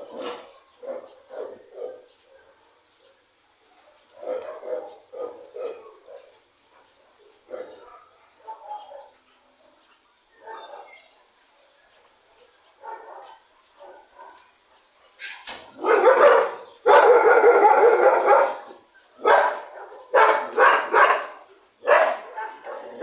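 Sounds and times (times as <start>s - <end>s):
dogs barking: 0.0s - 9.3s, 12.4s - 23.0s.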